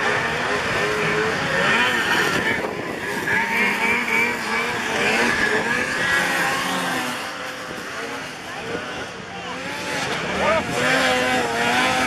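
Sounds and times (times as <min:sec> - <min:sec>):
snowmobile engines racing: 0:00.0 - 0:12.0.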